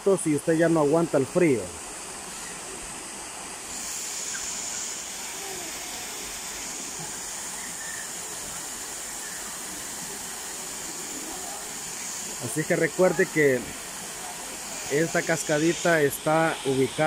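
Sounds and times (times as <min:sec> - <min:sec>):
waterfall pouring into pool: 0:00.1 - 0:17.0.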